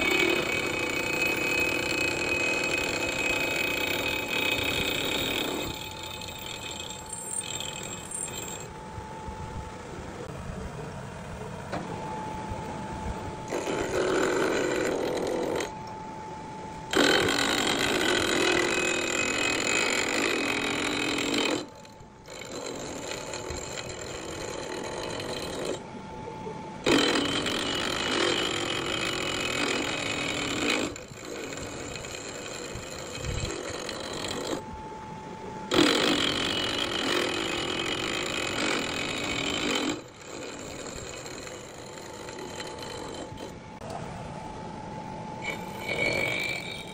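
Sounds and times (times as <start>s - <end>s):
milling machine cutting metal: 0.0s - 8.9s, 11.7s - 34.9s, 35.6s - 44.0s, 45.4s - 46.9s
thin steady tone: 0.0s - 46.9s.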